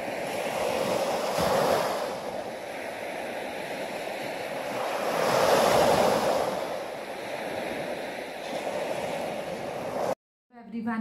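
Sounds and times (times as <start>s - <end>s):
small waves breaking on sand: 0.0s - 10.2s.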